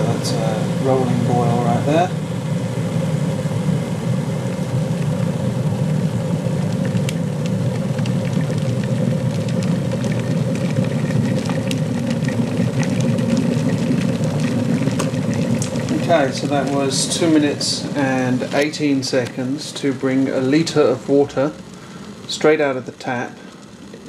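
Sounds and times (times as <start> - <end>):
kettle water boiling: 0.0 - 24.0.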